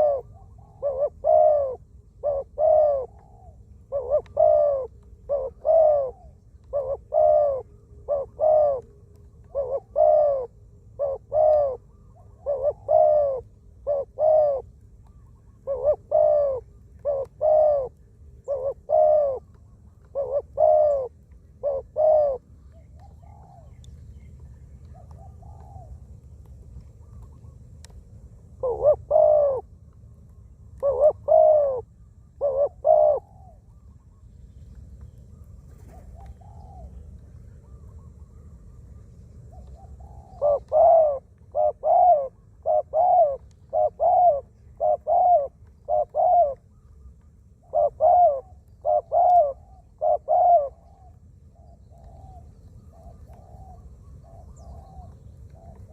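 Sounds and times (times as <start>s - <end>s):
dove cooing: 0.0s - 27.6s, 28.5s - 34.2s, 35.6s - 55.9s.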